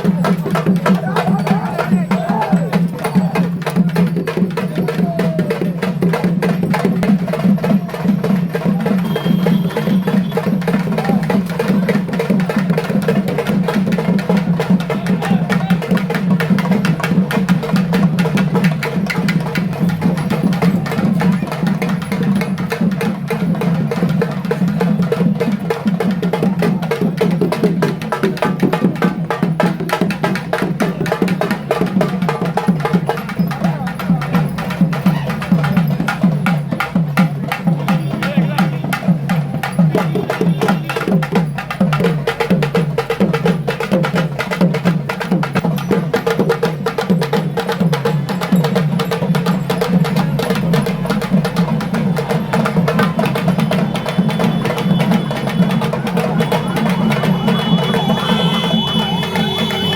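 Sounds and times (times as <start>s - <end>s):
fast ritual drumming: 0.0s - 59.9s
voices: 0.0s - 59.9s.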